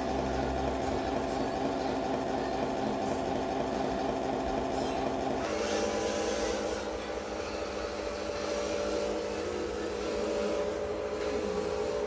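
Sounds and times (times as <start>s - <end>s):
model truck engine hum: 0.0s - 12.0s.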